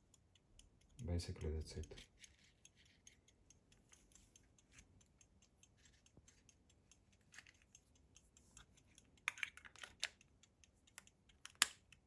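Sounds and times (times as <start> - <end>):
pocket watch ticking: 0.0 - 12.0.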